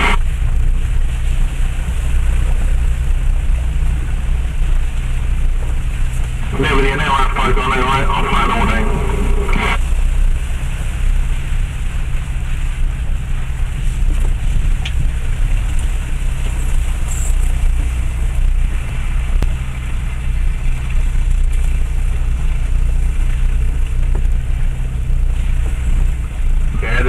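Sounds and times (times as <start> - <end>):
diesel engine rumble: 0.0 - 27.0.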